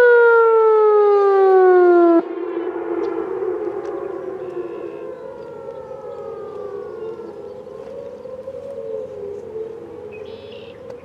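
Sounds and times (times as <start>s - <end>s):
outdoor warning siren with echo: 0.0s - 11.0s.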